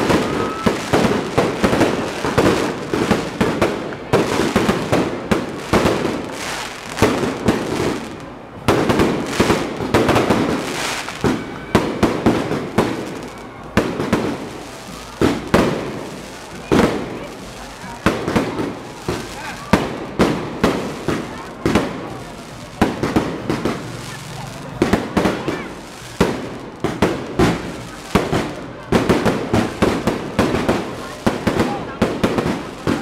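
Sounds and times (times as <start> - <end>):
fireworks bangs and crackling: 0.0 - 33.0.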